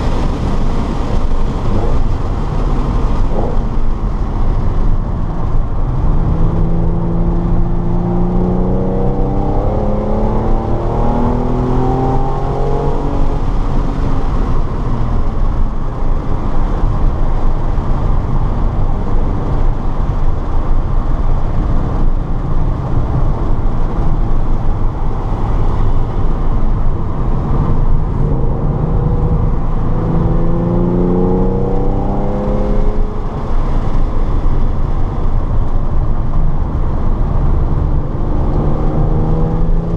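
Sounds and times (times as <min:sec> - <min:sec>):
car engine accelerating hard: 0:00.0 - 0:39.9
road and wind noise: 0:00.0 - 0:39.9.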